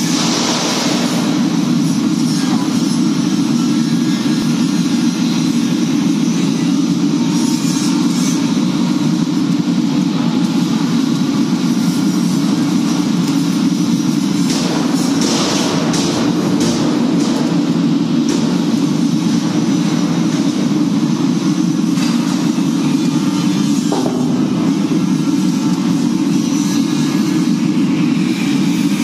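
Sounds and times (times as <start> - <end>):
machinery drone: 0.0 - 29.0.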